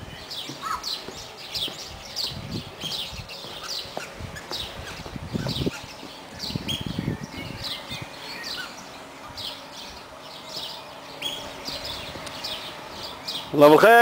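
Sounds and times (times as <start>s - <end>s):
birds chirping: 0.0s - 14.0s
low rumbling noise: 0.0s - 14.0s.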